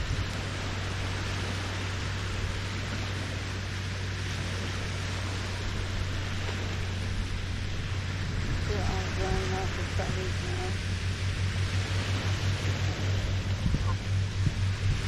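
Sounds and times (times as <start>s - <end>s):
low steady hum: 0.0s - 15.0s
small waves lapping the shore: 0.0s - 15.0s.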